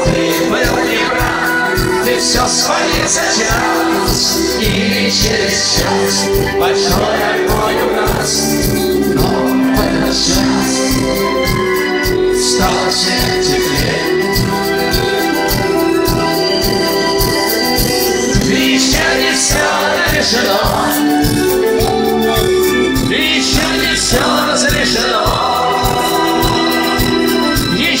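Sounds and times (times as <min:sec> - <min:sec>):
people singing: 0:00.0 - 0:16.7, 0:17.9 - 0:28.0
held keyboard chords: 0:00.0 - 0:28.0
steady drumbeat: 0:00.0 - 0:28.0.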